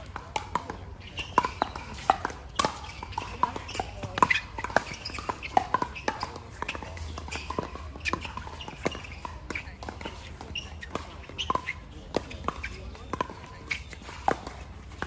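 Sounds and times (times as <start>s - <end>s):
paddles striking balls: 0.0s - 15.0s.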